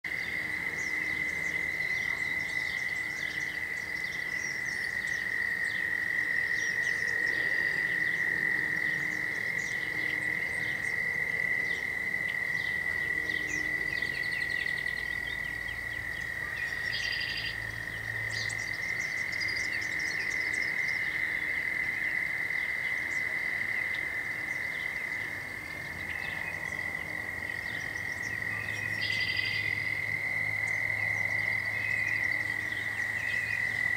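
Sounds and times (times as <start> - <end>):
tree frogs trilling: 0.0 - 33.9
rapid pulsing frog call: 0.1 - 33.9.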